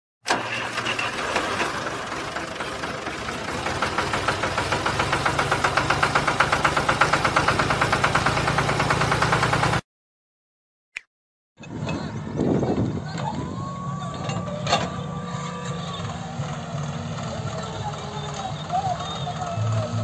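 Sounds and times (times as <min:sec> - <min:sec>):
tractor diesel engine chugging: 0:00.3 - 0:09.8, 0:11.7 - 0:20.0.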